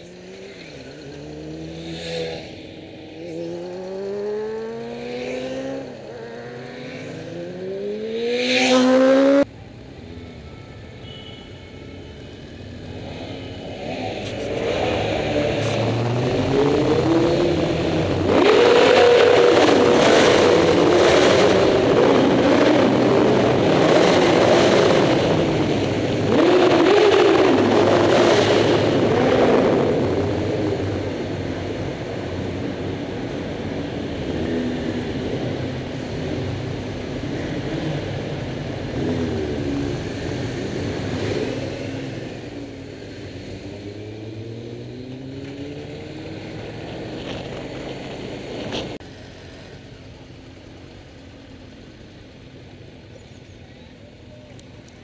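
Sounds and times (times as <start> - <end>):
motorcycle engines accelerating: 0.0 - 9.5, 12.4 - 55.0.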